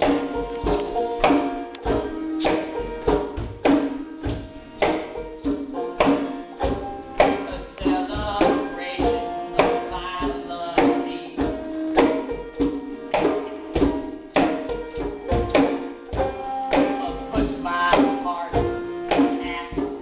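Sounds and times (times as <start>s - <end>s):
banjo chords: 0.0s - 20.0s
deep drum beat: 0.0s - 20.0s
hand drum: 0.0s - 20.0s
strummed acoustic guitar: 0.0s - 20.0s.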